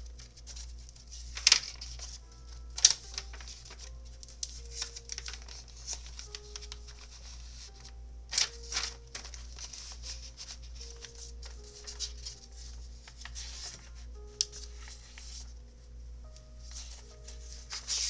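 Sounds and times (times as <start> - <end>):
paper pages rustling: 0.0 - 15.6, 16.3 - 18.0
soft background music: 0.0 - 18.0
page flip: 0.1 - 15.5, 16.6 - 18.0.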